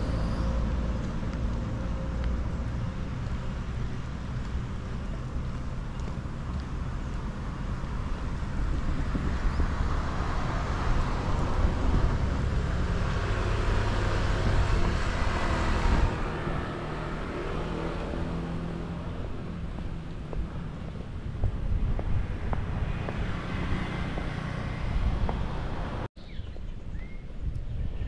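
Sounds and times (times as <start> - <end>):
vehicle passing on road: 0.0 - 26.1
wind buffeting microphone: 4.0 - 28.0.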